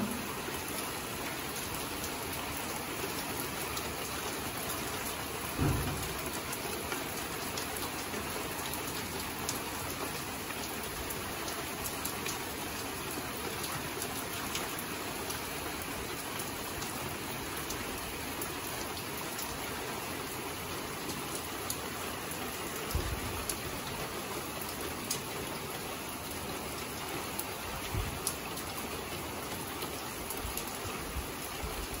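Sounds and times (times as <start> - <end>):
heavy rain: 0.0 - 32.0
raindrops ticking: 4.7 - 16.9, 17.6 - 32.0.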